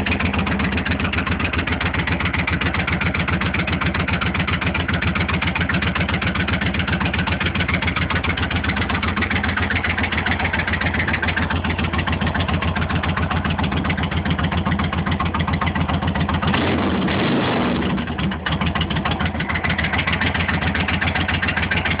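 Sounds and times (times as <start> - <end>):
motorcycle engine idling: 0.0 - 17.1, 17.8 - 22.0.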